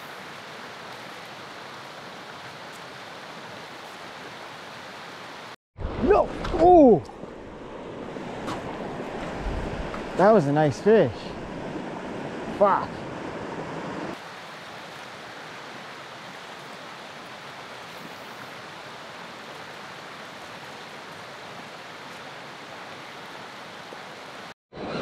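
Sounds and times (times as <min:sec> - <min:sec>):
running water rushing: 0:00.0 - 0:24.6.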